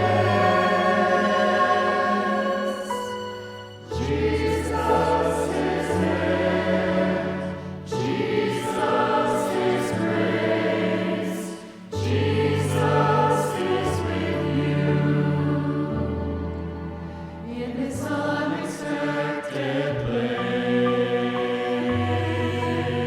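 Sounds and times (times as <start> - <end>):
choir singing church music: 0.0 - 23.0.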